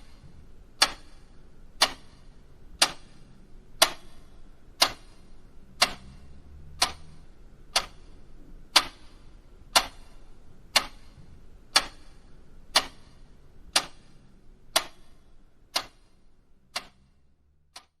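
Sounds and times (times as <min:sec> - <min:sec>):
clock ticking: 0:00.0 - 0:18.0.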